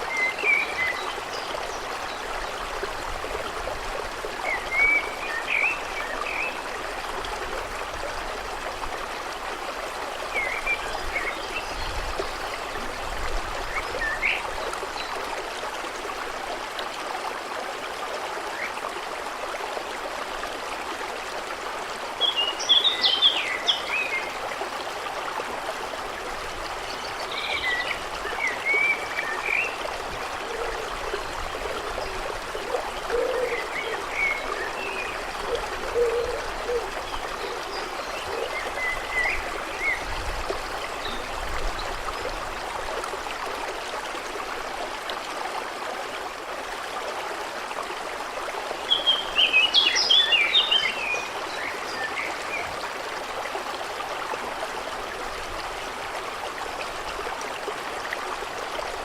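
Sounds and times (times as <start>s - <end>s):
stream running over stones: 0.0s - 59.0s.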